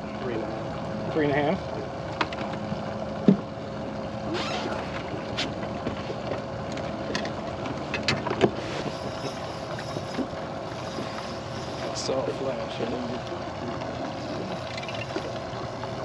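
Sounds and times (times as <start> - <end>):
steady boat hum: 0.0 - 16.0.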